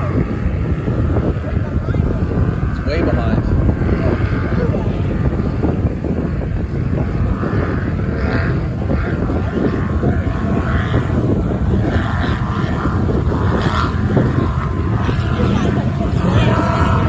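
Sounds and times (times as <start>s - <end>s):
powerboat engines running: 0.0s - 17.0s.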